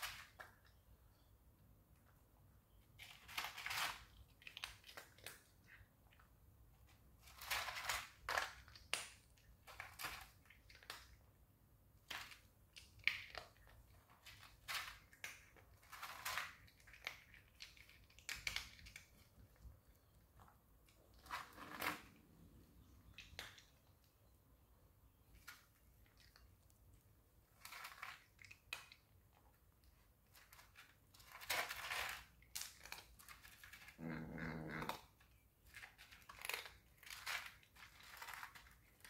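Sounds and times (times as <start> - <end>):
cat crunching dry kibble: 0.0 - 0.7, 2.8 - 24.2, 25.2 - 39.0.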